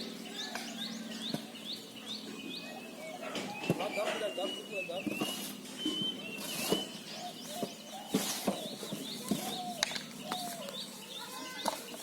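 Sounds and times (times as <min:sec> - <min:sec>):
birds chirping: 0:00.0 - 0:12.0
lower falling bird calls: 0:00.0 - 0:12.0.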